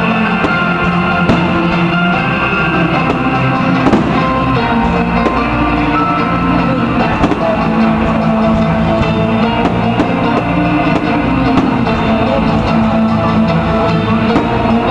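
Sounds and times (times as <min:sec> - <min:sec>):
drum kit beat: 0:00.0 - 0:05.7, 0:06.5 - 0:14.9
guitar: 0:00.0 - 0:14.9.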